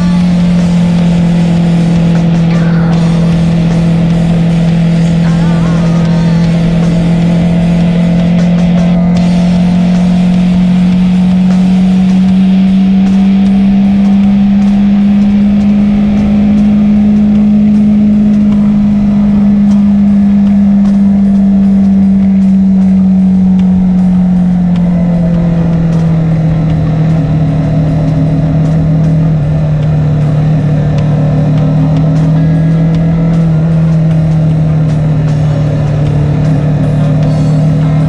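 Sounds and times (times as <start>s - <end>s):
motorcycle engine cruising: 0.0s - 38.0s
music with steady beat: 0.0s - 38.0s.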